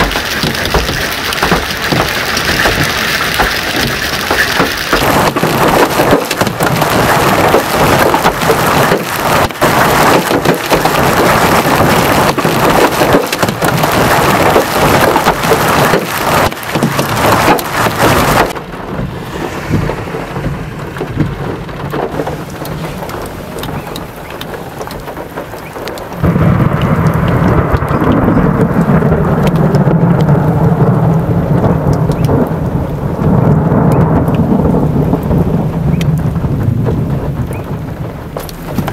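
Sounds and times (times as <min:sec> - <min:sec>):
heavy rain and hail: 0:00.0 - 0:38.9
thunder rumbling: 0:00.0 - 0:38.9.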